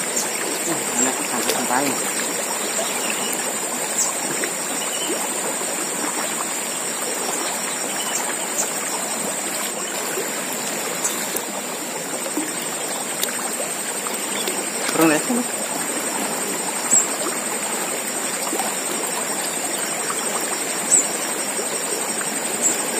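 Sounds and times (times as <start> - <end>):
river rushing: 0.0 - 19.3.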